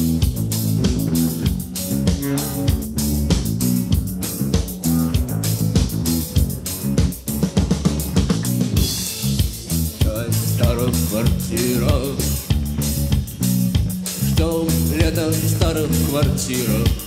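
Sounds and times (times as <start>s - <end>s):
drum kit beat: 0.0s - 17.0s
rock guitars playing: 0.0s - 17.0s.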